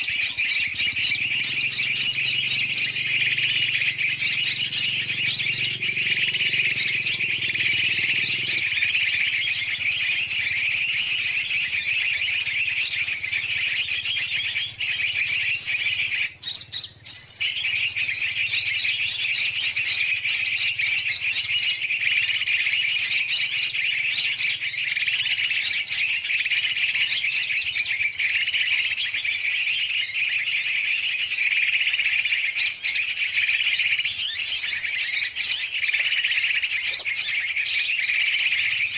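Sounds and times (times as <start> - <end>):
chorus of birds chirping: 0.0 - 38.9.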